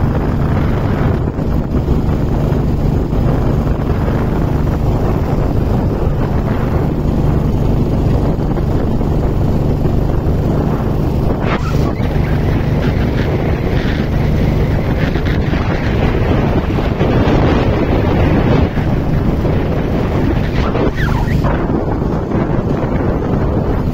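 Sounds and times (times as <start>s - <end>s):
vehicle running with road noise: 0.0s - 23.9s
wind buffeting microphone: 0.0s - 23.9s.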